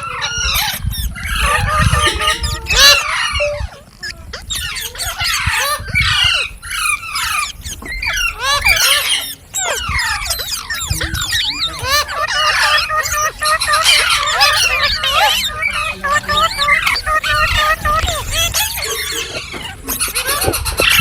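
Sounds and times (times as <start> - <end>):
parrots squawking: 0.0 - 21.0.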